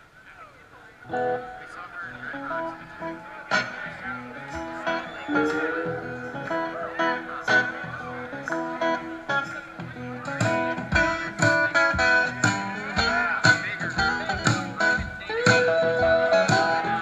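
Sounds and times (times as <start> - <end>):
acoustic guitars playing: 1.0 - 17.0.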